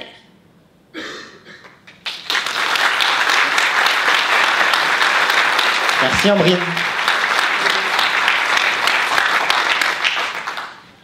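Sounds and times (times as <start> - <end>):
crowd applause: 1.9 - 10.9.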